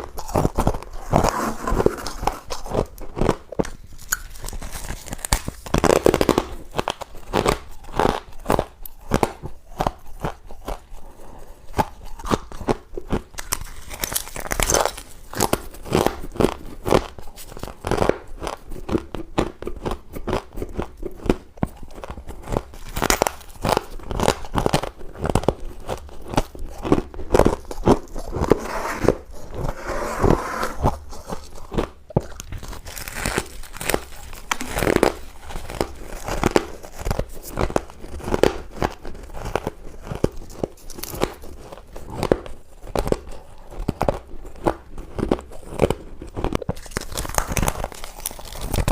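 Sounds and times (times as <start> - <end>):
chewing crunchy ice: 0.0 - 28.5, 30.8 - 48.9.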